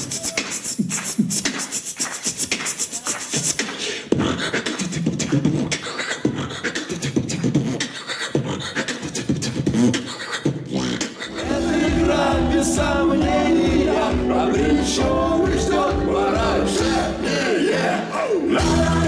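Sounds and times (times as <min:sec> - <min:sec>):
person beatboxing: 0:00.0 - 0:17.5.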